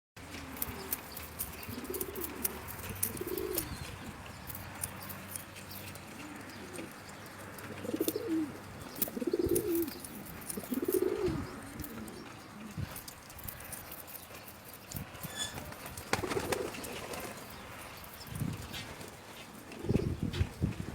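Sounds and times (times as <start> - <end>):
pigeons cooing: 0.2 - 14.2, 15.2 - 20.9.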